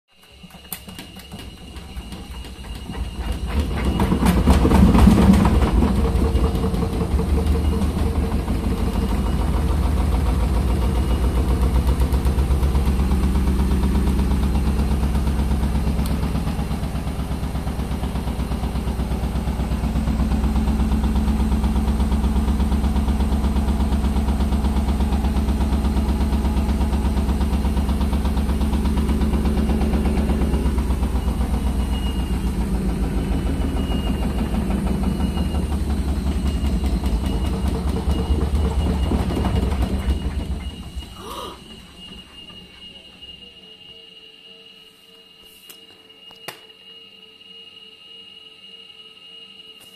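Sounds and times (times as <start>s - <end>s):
washing machine spinning: 0.0s - 45.4s.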